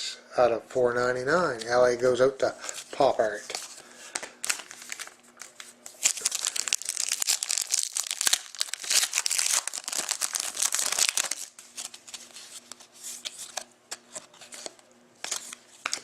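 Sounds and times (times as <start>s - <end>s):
wrapper crinkling and tearing: 2.6s - 16.0s.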